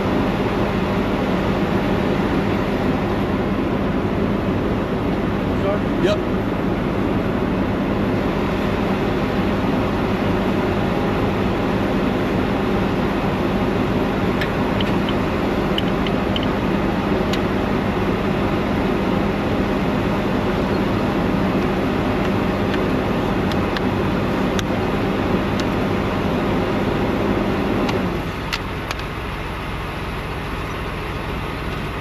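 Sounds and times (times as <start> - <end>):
mechanical drone with low hum: 0.0 - 32.0.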